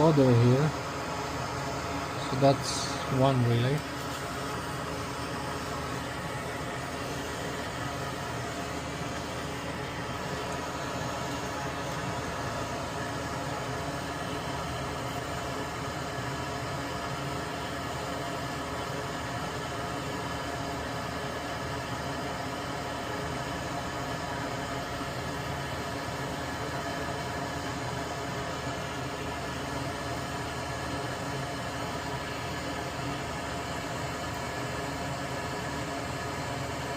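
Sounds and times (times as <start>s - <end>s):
small machine humming: 0.0s - 36.9s.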